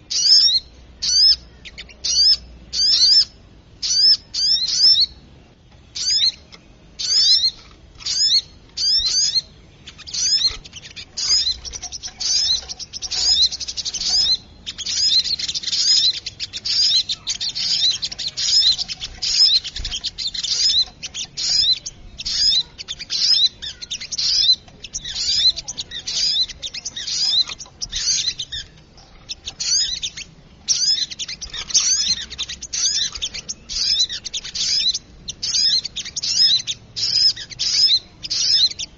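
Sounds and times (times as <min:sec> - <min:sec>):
bird sharp high chirps: 0:00.0 - 0:38.9.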